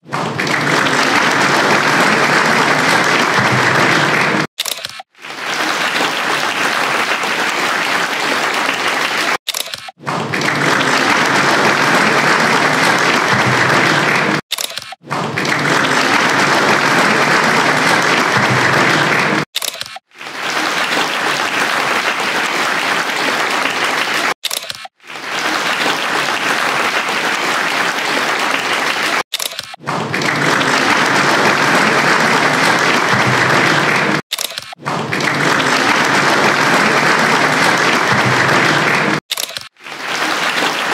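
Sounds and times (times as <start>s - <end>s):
audience applauding: 0.0s - 14.4s, 15.0s - 40.9s.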